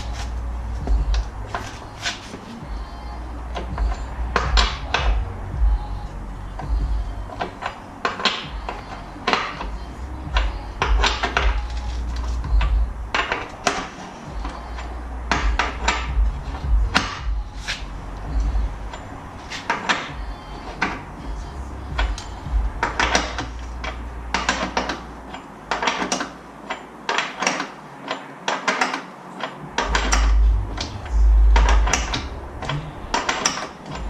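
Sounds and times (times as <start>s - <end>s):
hand tools knocking and clanking: 3.5s - 5.8s, 6.5s - 34.0s.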